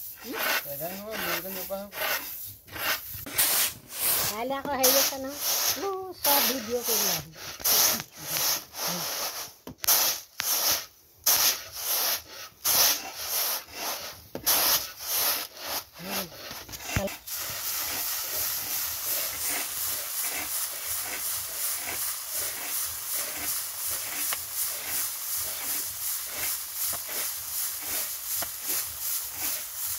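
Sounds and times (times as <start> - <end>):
rice shaken in bamboo sieve: 0.0 - 29.9.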